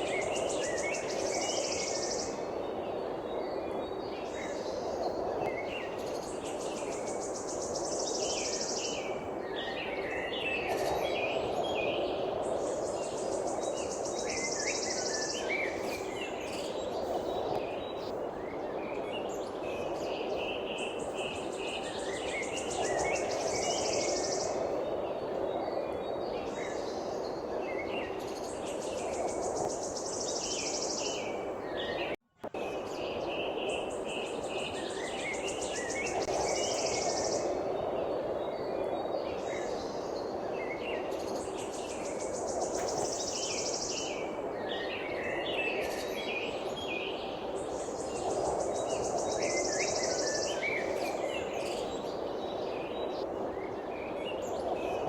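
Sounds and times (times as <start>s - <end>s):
birds chirping and twittering: 0.0s - 55.0s
steady background hiss: 0.0s - 55.0s.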